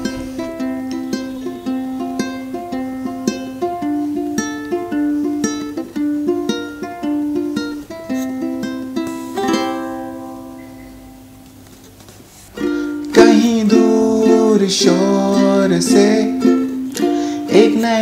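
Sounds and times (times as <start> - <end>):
ukulele chord ringing: 0.0 - 11.9, 12.6 - 18.0
ukulele fingerpicking: 0.0 - 18.0.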